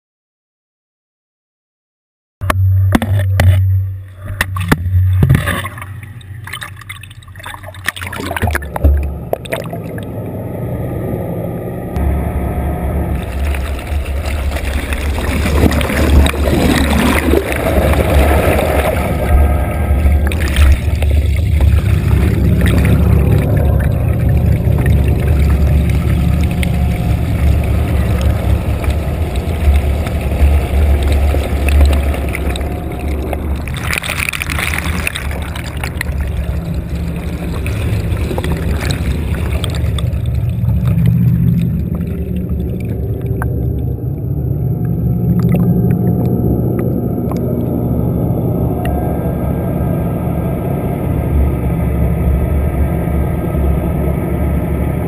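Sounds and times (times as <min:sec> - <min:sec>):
low steady rumble: 0:02.4 - 0:55.0
underwater water and bubbles rushing: 0:02.4 - 0:55.0.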